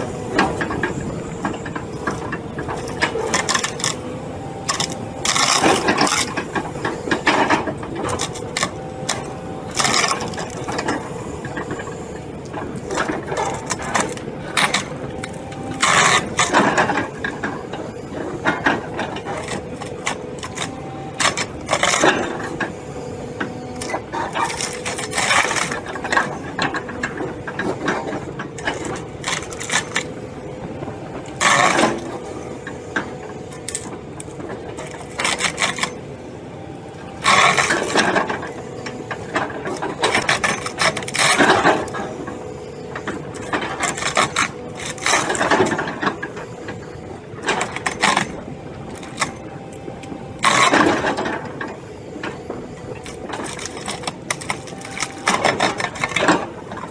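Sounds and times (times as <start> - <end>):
machinery humming: 0.0 - 56.9.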